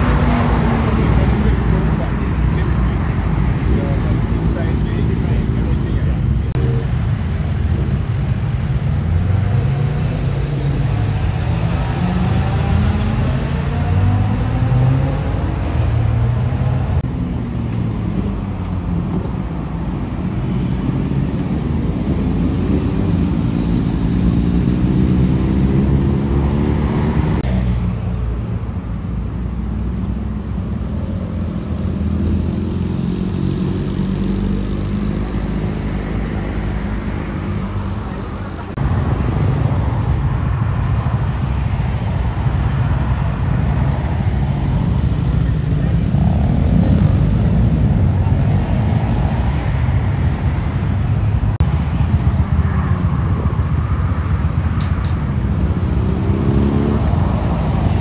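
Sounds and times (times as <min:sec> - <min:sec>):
motorcycle engines idling and revving: 0:00.0 - 0:58.0.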